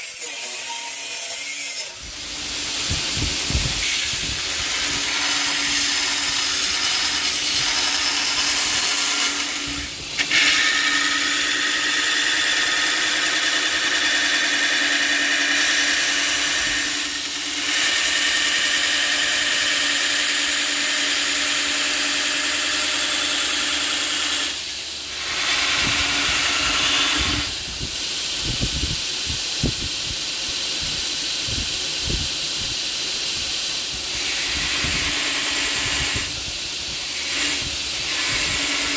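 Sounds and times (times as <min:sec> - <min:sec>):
bandsaw cutting metal: 0:00.0 - 0:27.7, 0:34.0 - 0:38.9.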